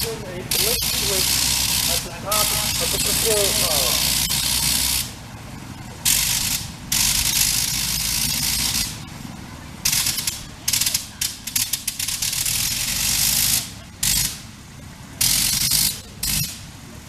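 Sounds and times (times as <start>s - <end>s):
rotary engine stuttering blips: 0.0s - 17.0s.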